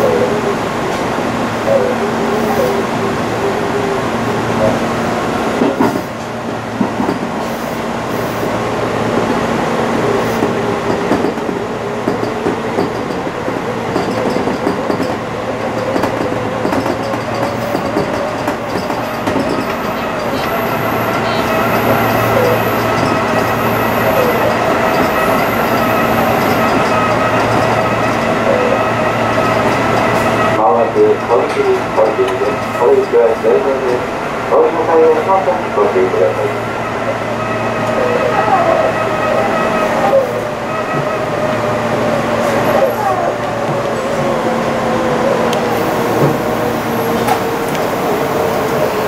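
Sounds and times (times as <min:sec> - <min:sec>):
train wheels running on rail: 0:00.0 - 0:49.0.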